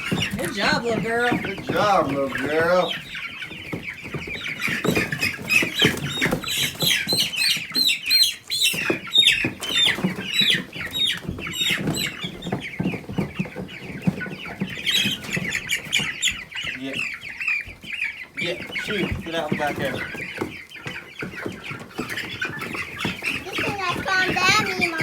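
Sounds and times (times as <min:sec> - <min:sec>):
bumps and scuffling: 0:00.0 - 0:25.0
chickens peeping: 0:00.0 - 0:25.0.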